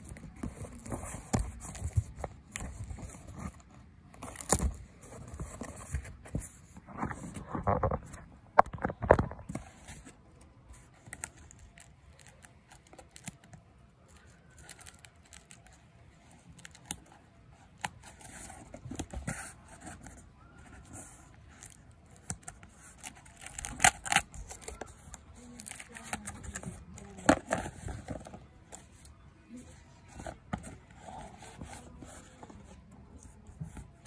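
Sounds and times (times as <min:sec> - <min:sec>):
cardboard rustling: 0:00.0 - 0:13.4, 0:14.2 - 0:34.0.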